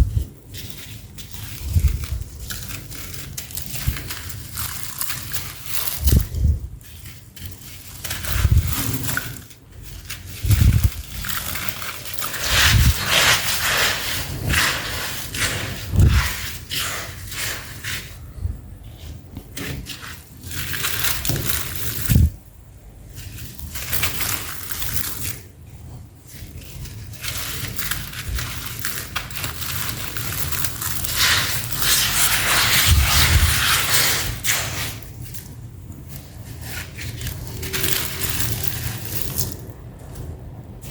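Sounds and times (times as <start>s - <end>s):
cement chunks crunching: 0.0s - 18.2s, 18.9s - 40.9s.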